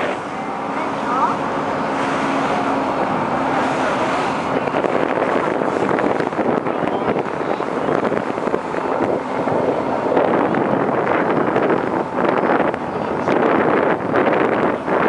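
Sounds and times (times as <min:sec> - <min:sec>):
ferry engine: 0:00.0 - 0:15.0
water noise: 0:00.0 - 0:15.0
wind buffeting microphone: 0:00.0 - 0:15.0.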